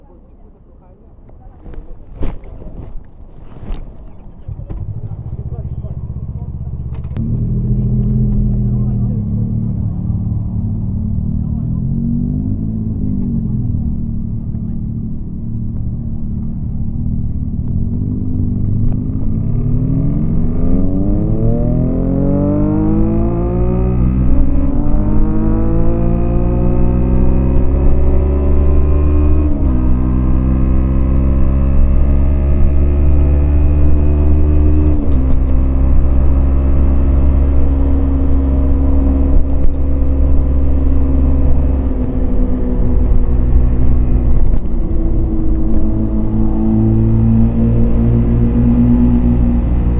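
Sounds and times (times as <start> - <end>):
motorcycle engine accelerating: 1.6 - 49.9.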